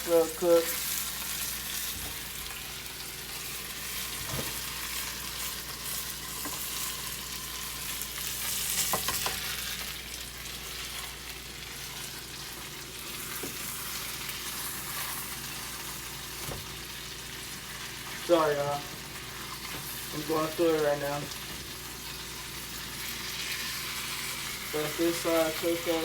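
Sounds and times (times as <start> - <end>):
meat sizzling in a pot: 0.0 - 26.0.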